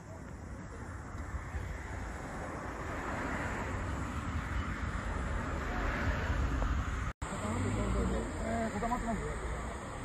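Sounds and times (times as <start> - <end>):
distant jet rushing: 0.4 - 10.0.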